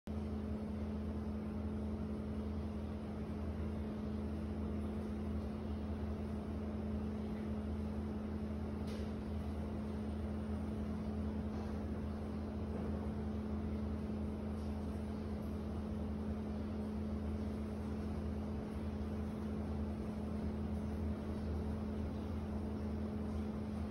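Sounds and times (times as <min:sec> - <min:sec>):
machine hum: 0:00.1 - 0:23.9.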